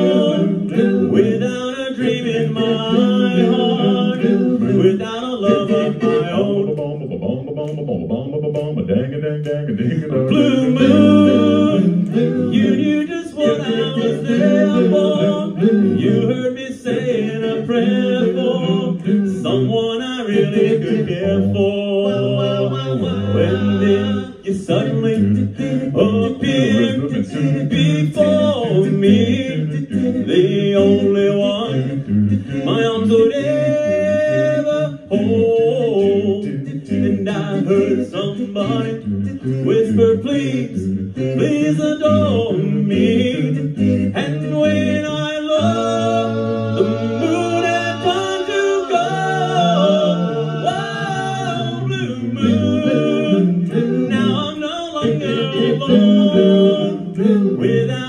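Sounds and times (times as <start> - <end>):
men singing a cappella in harmony: 0.0 - 58.0.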